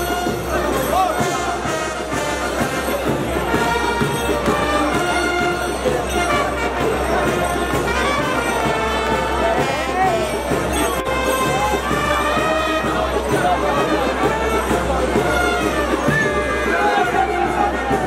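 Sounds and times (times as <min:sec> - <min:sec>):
brass band playing: 0:00.0 - 0:18.0
crowd chatter: 0:00.0 - 0:18.0.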